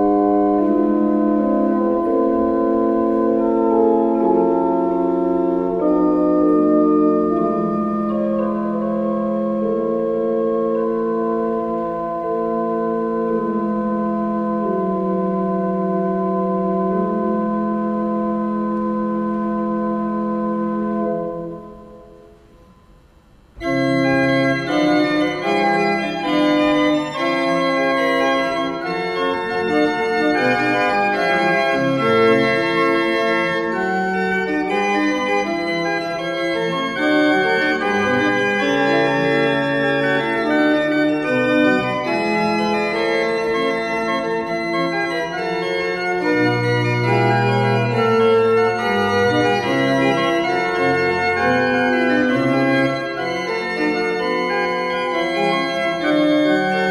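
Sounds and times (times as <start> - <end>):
organ music: 0.0 - 56.9.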